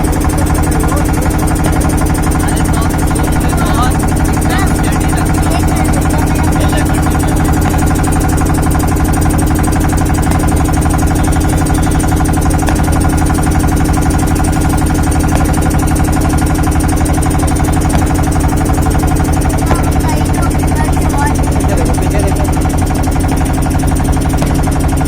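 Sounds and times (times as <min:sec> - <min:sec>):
loud steady mechanical hum: 0:00.0 - 0:25.0.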